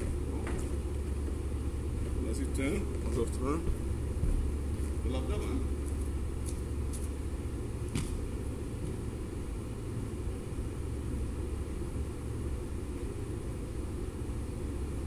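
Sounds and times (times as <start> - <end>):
low rumble of hall noise: 0.0 - 15.0.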